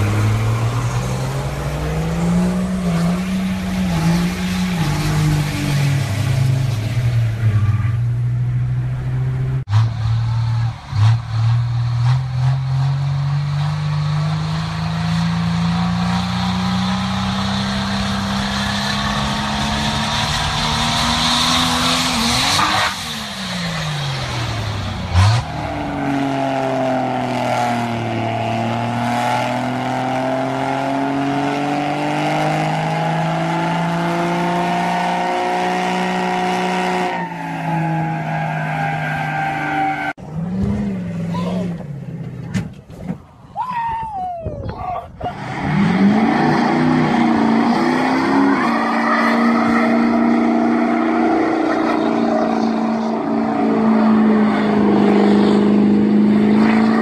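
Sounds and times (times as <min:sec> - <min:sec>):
truck engines revving high: 0:00.0 - 0:57.0.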